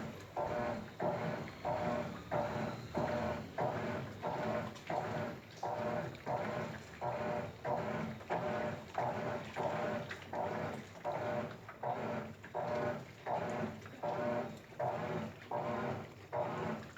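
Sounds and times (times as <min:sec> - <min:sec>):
washing machine agitating: 0:00.0 - 0:16.9.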